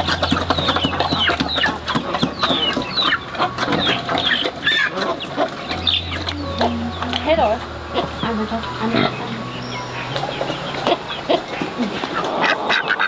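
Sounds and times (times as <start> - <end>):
chickens clucking and calling: 0.0 - 13.0.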